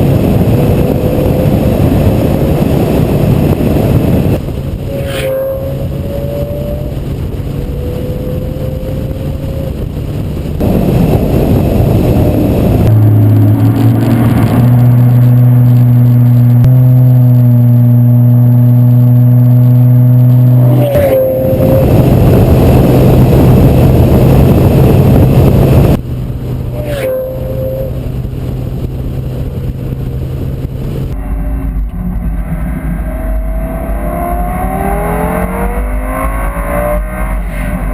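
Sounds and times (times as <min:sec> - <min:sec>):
car engine: 0:00.0 - 0:37.9
road noise: 0:00.0 - 0:37.9.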